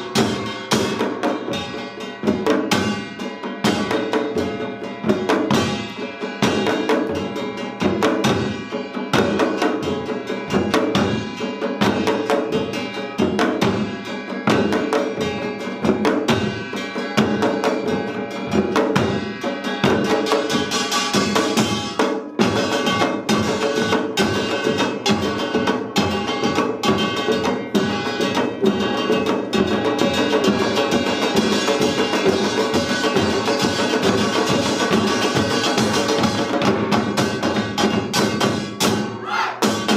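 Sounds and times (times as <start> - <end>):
small gong clanging: 0.0 - 36.4
barrel drums struck rapidly: 0.0 - 39.9.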